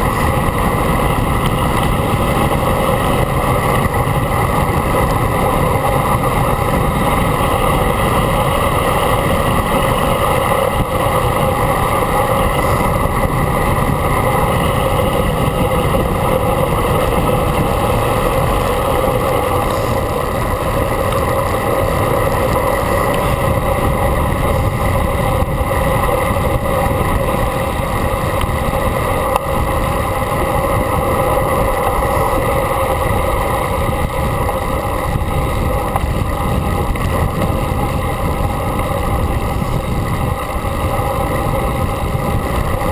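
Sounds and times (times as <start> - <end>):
faint steady hums: 0.0 - 42.9
road noise at speed: 0.0 - 42.9
rushing wind: 0.0 - 42.9.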